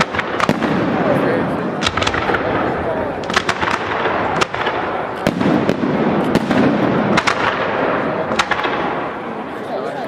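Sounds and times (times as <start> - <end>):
firework bangs: 0.0 - 9.6
firework crackle: 0.0 - 9.7.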